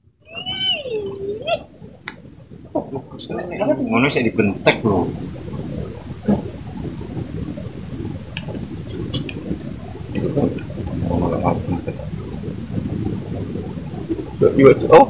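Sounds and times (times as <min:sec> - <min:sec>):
low murmur: 0:00.0 - 0:15.0.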